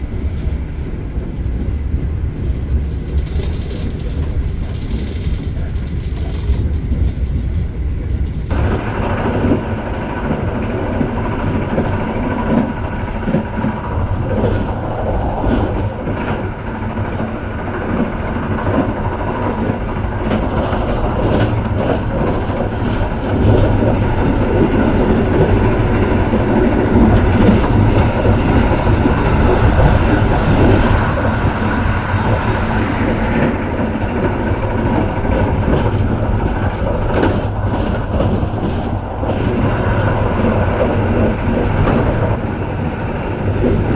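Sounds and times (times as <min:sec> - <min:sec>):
train rumbling: 0:00.0 - 0:43.9
wheels clicking on track: 0:00.0 - 0:43.9.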